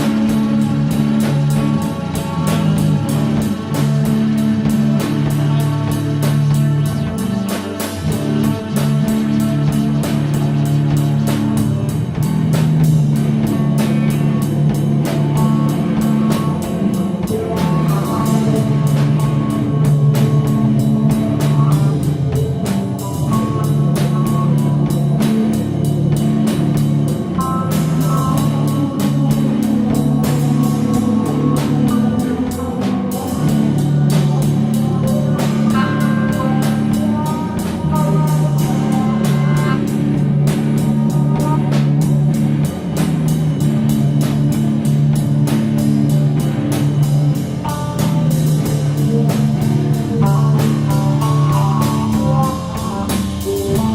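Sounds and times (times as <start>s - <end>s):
distorted electric guitars: 0.0s - 53.9s
drum kit beat: 0.0s - 53.9s
sustained synth notes: 0.0s - 53.9s.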